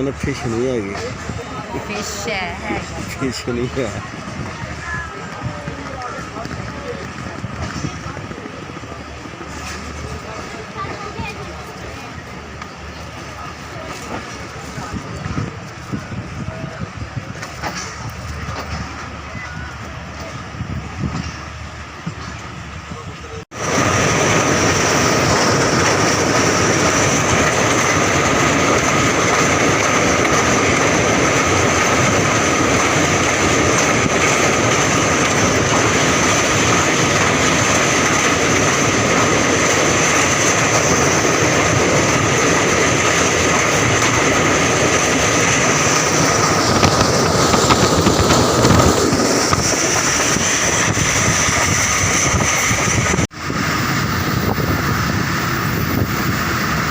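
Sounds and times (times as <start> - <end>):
train wheels rumbling on track: 0.0 - 56.9.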